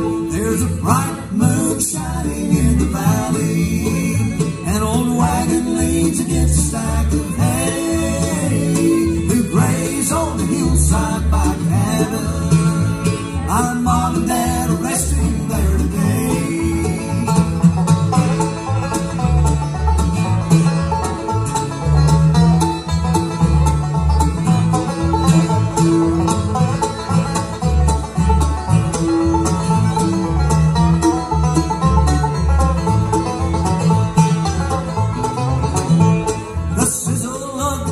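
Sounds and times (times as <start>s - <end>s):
upright bass thumping: 0.0s - 36.9s
banjo picking quick notes: 0.0s - 37.9s
bluegrass band playing: 0.0s - 37.9s.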